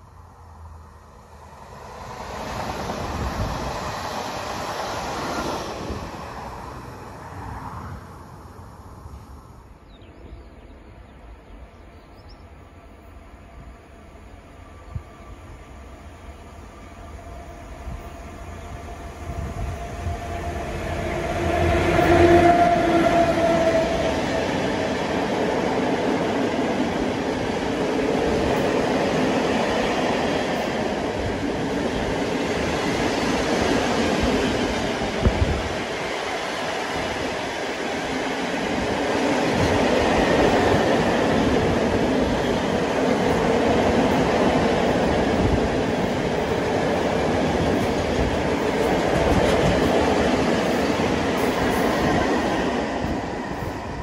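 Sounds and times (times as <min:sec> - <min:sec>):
train wheels on rails: 0:01.4 - 0:09.3, 0:14.8 - 0:54.0.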